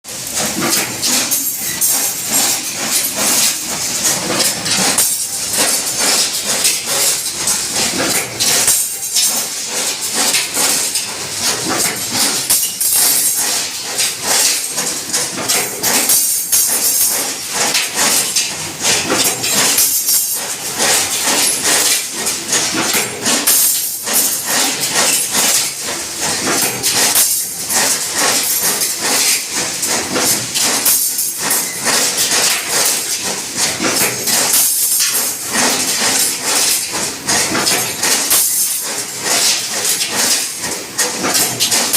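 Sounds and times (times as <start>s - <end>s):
construction machine rattling: 0.1s - 41.9s.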